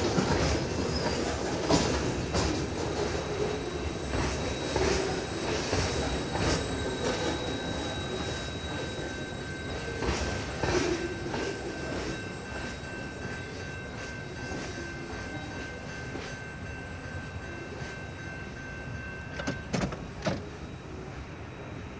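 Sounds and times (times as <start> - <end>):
low rumble of a train: 0.0 - 21.9
railroad crossing bell ringing: 0.0 - 21.9.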